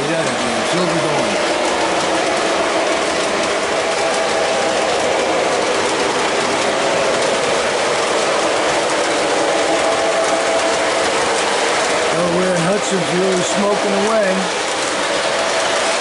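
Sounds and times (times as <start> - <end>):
model train wheels rumbling on rails: 0.0 - 16.0.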